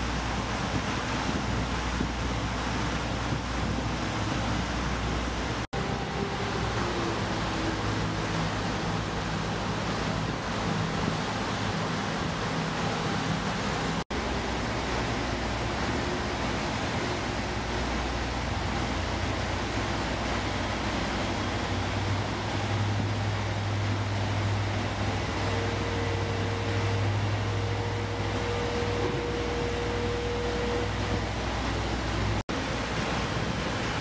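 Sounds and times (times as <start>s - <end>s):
constant rushing noise: 0.0s - 34.0s
vehicle engine humming: 0.0s - 34.0s.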